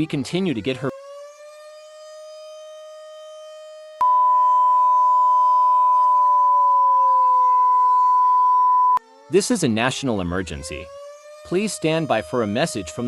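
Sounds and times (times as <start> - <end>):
civil defense siren winding down: 0.0 - 13.0
emergency alert tone: 0.0 - 13.0.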